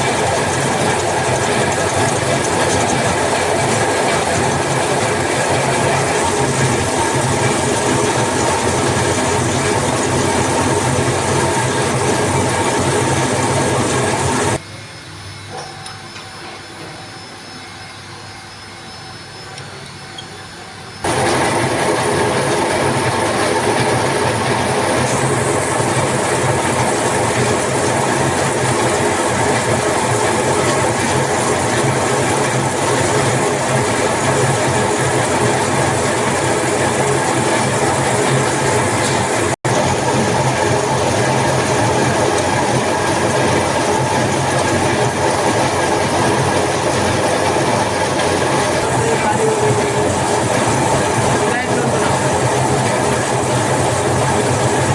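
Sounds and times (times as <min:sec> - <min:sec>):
machine running: 0:00.0 - 0:54.9.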